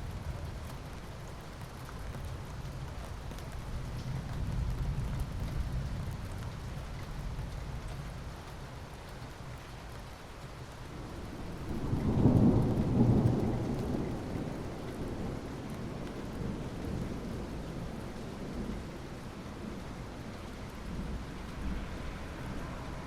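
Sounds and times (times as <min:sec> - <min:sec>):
low rumble of thunder: 0:00.0 - 0:08.8, 0:10.7 - 0:23.0
steady rain: 0:00.0 - 0:23.0.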